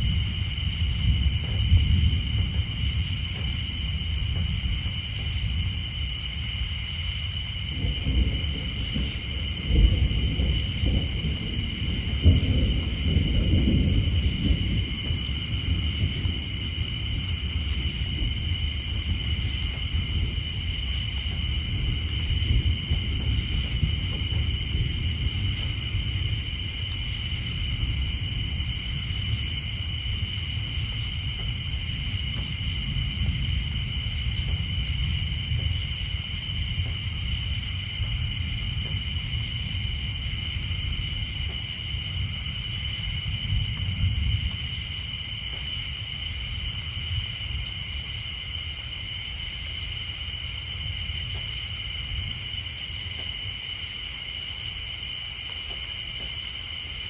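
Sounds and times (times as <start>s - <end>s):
distant thunder rumble: 0.0s - 57.0s
tree frogs and insects chorus: 0.0s - 57.0s.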